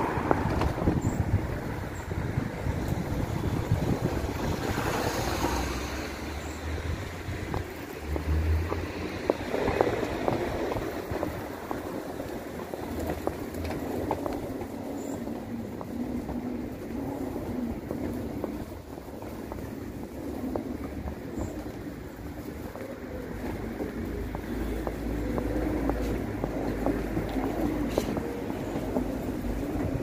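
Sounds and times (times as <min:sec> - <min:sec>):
street traffic: 0:00.0 - 0:30.0
wind buffeting microphone: 0:00.0 - 0:30.0.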